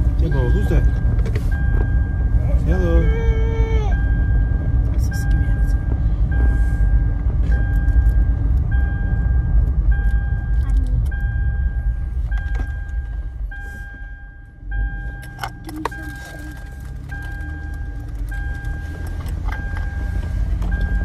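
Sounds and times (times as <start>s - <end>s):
car road noise rumble: 0.0s - 21.0s
pitched beeping tone: 0.0s - 21.0s.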